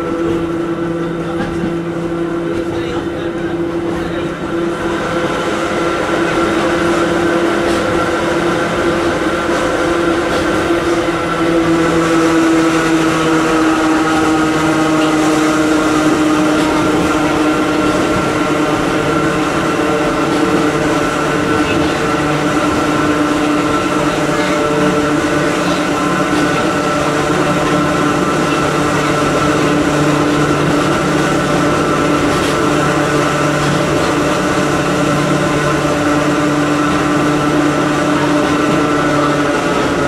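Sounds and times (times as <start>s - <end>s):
electric train motors whining: 0.0s - 40.0s
train running gear rumbling: 0.0s - 40.0s.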